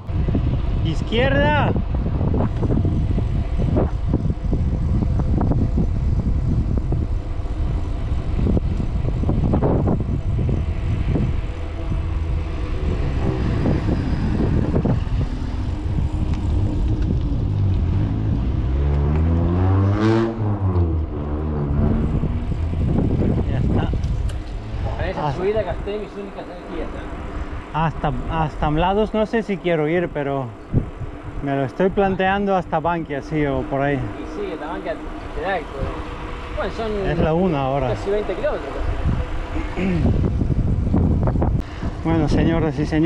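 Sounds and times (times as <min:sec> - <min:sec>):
bicycle road rumble: 0:00.0 - 0:43.0
motor vehicle passing: 0:00.0 - 0:43.0
wind on microphone: 0:00.0 - 0:43.0.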